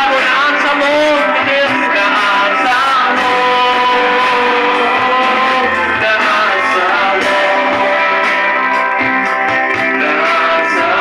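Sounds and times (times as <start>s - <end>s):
person singing: 0.0s - 9.1s, 9.9s - 11.0s
amplified guitar playing: 1.9s - 11.0s.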